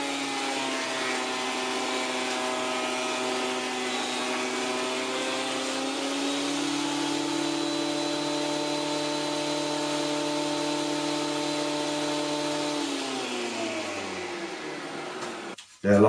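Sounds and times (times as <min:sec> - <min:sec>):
electric planer motor whine: 0:00.0 - 0:15.6.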